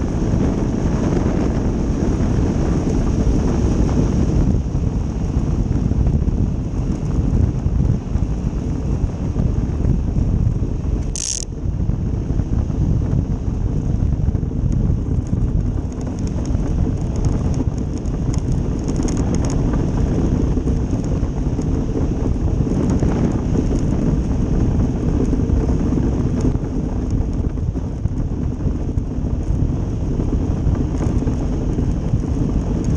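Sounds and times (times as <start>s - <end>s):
wind on microphone: 0.0s - 32.9s.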